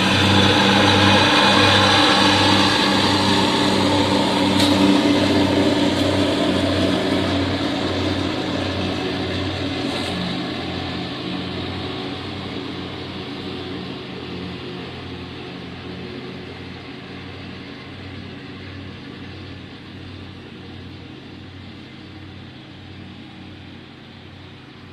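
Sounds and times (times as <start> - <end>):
lawn mower engine running: 0.0 - 24.9.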